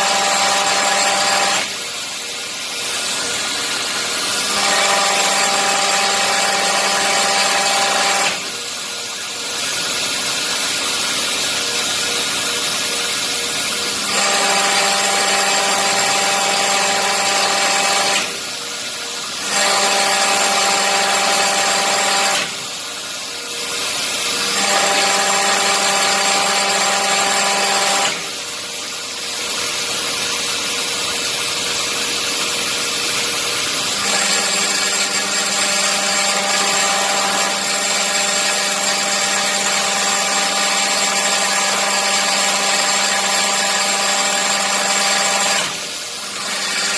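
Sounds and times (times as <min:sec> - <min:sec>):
hydraulic pump whining: 0:00.0 - 0:46.9.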